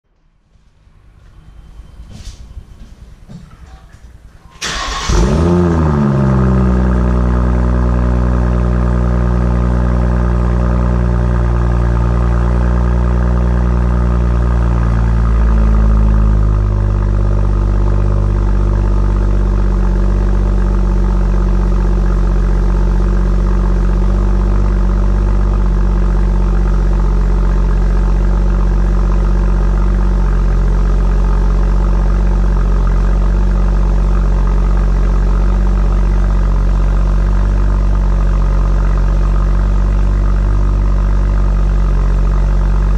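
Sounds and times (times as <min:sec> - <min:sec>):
car engine idling: 0:02.8 - 0:42.9.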